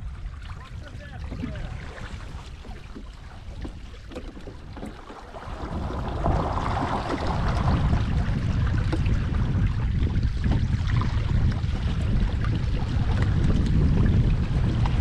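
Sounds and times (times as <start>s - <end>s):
water washing along hull: 0.0s - 15.0s
wind rumbling on microphone: 0.0s - 15.0s.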